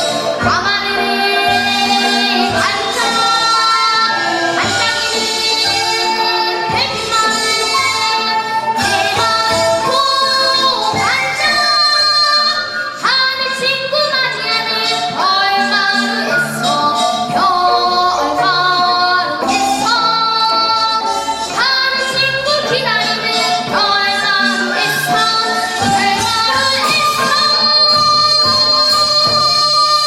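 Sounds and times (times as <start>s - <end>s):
children singing: 0.0s - 30.0s
instrumental accompaniment: 0.0s - 30.0s.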